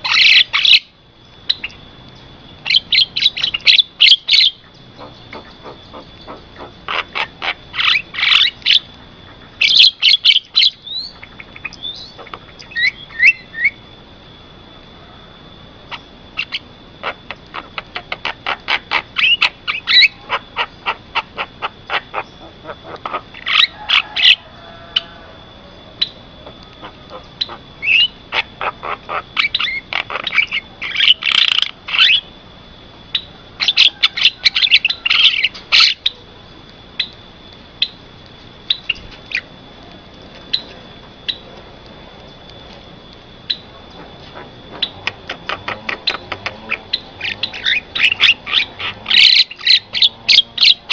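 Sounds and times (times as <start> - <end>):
myna calling: 0.0 - 1.8, 2.5 - 14.0, 14.9 - 32.3, 33.2 - 41.4, 42.4 - 50.9
thin steady high tone: 0.0 - 50.9.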